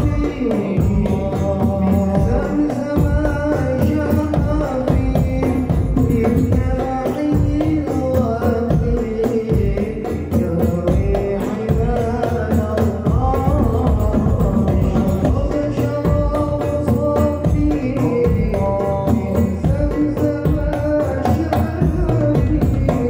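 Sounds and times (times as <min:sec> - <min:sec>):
bass drum beating: 0:00.0 - 0:23.0
frame drums beating: 0:00.0 - 0:23.0
person singing devotional melody: 0:00.0 - 0:23.0.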